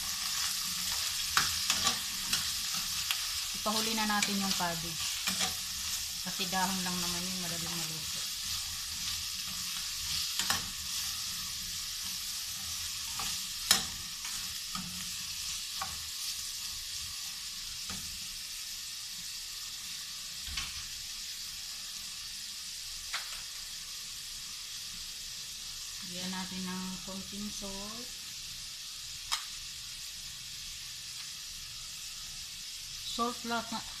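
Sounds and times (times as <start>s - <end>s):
vegetables sizzling in a frying pan: 0.0s - 34.0s.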